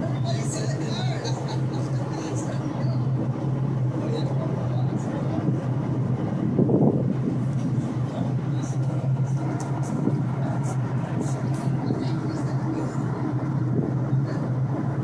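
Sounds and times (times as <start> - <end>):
ferry diesel engines droning: 0.0 - 15.0.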